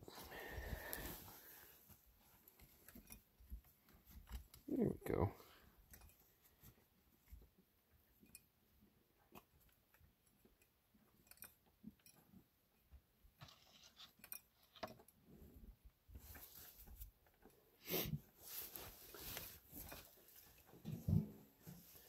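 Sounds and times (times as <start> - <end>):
faint clicks and rustles: 0.0 - 22.0.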